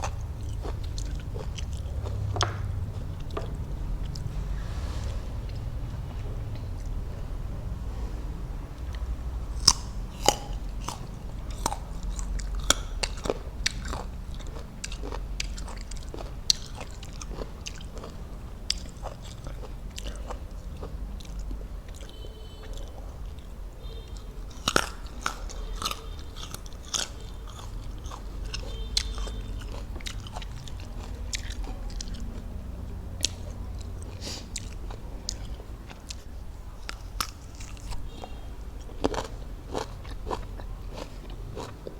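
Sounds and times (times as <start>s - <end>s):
wet chewing: 0.0s - 7.8s, 8.8s - 41.9s.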